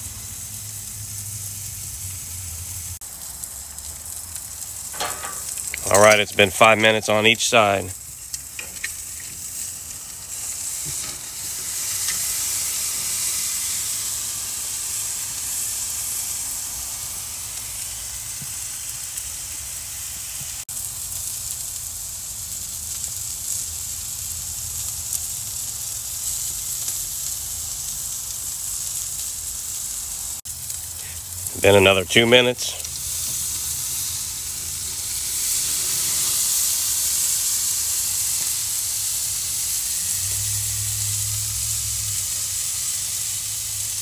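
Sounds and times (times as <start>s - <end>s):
steak sizzling on a grill: 0.0s - 44.0s.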